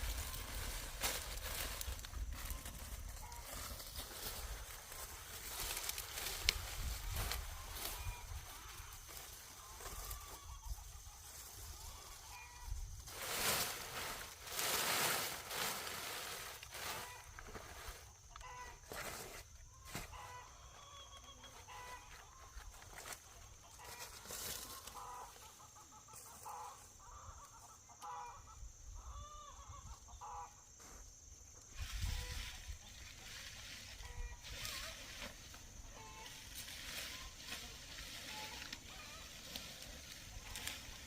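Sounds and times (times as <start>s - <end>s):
chickens clucking: 0.0s - 14.8s, 15.5s - 19.0s, 19.7s - 41.0s.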